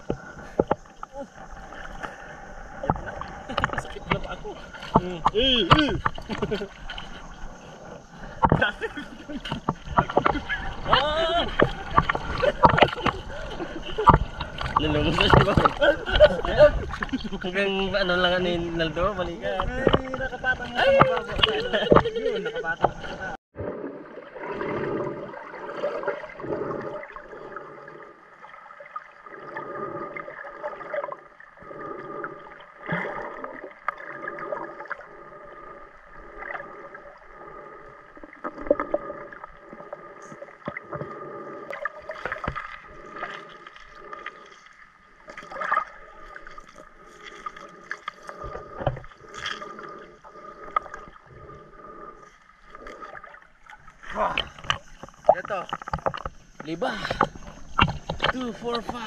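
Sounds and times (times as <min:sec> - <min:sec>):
underwater water surging: 0:00.0 - 0:59.0.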